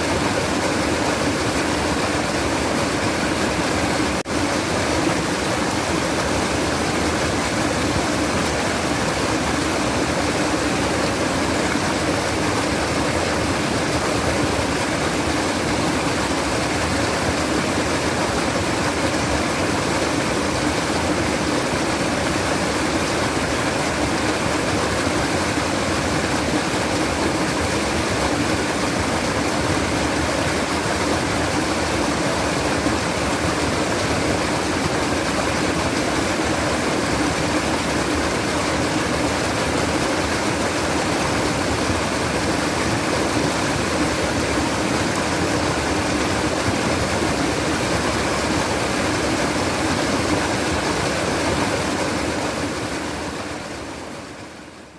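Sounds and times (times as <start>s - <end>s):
babbling stream water: 0.0s - 54.9s.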